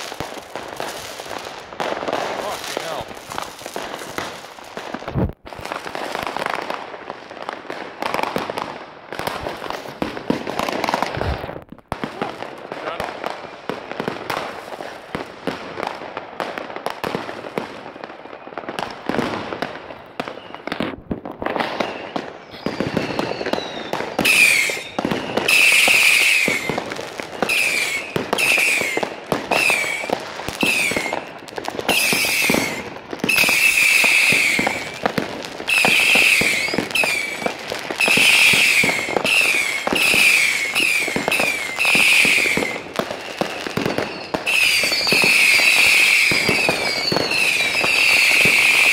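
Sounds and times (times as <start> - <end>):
firecracker cracks and bangs: 0.0 - 48.9
firework crackling: 0.0 - 48.9
shrieking firework bursts: 0.0 - 48.9.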